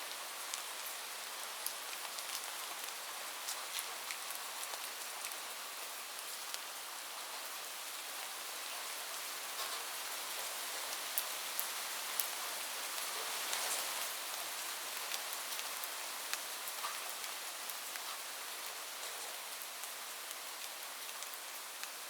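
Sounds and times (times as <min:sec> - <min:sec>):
steady rain on a roof: 0:00.0 - 0:22.0.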